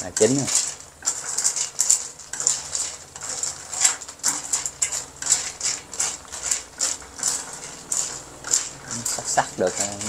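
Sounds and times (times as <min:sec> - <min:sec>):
metal spatula scraping a pan: 0:00.0 - 0:10.0.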